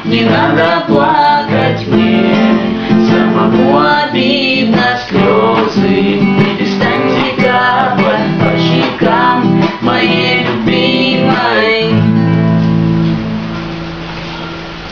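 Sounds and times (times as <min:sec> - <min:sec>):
person singing: 0:00.0 - 0:12.1
acoustic guitar strumming: 0:00.0 - 0:14.9.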